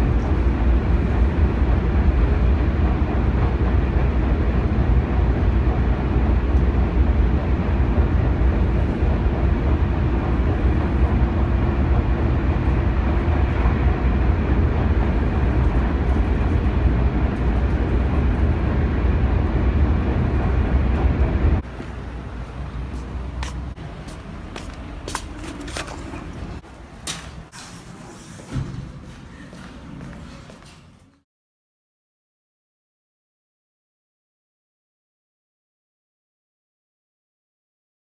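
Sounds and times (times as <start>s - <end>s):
moving vehicle rumble: 0.0s - 31.2s.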